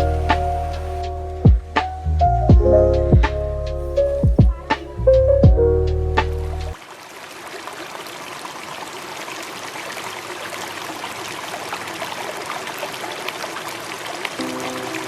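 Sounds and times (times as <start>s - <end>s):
water running: 0.0s - 1.8s, 2.5s - 15.0s.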